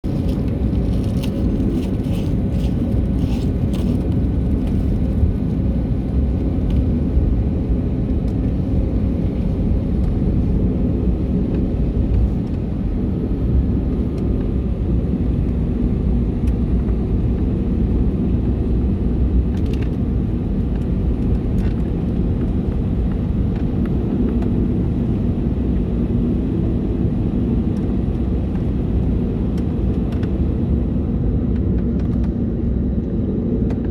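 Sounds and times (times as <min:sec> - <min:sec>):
airliner cabin engine rumble: 0:00.0 - 0:33.9.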